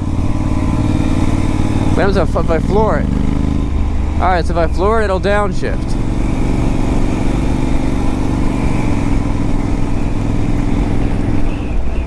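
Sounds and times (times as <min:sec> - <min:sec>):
motorcycle engine at full throttle: 0:00.0 - 0:12.0.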